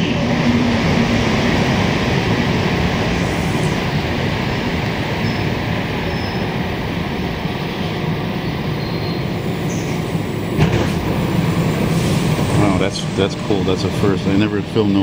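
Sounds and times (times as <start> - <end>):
metro train rumble: 0.0 - 15.0.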